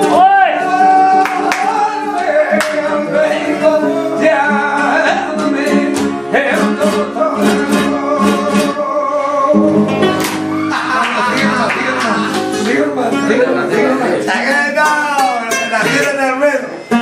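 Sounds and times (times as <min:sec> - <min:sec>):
flamenco guitar strumming: 0:00.0 - 0:17.0
man singing: 0:00.0 - 0:17.0.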